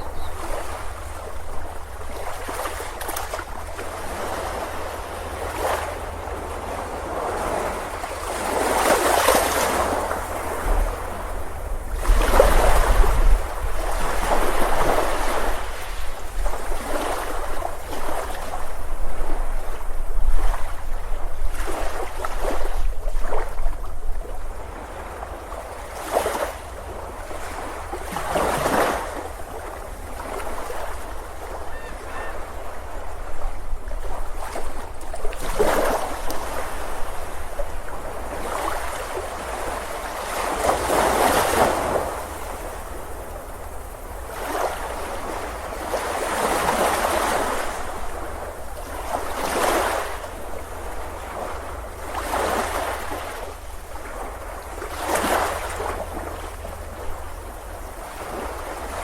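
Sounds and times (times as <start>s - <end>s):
ocean waves washing onto beach: 0.0s - 59.0s.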